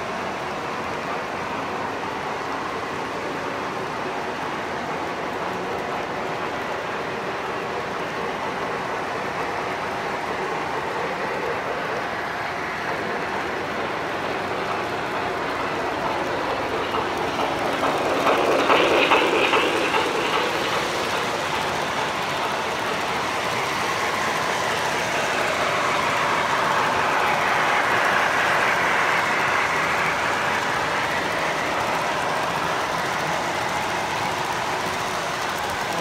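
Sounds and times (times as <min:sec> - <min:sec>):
model train wheels rolling on track: 0:00.0 - 0:36.0
wheels clicking on track: 0:00.0 - 0:36.0.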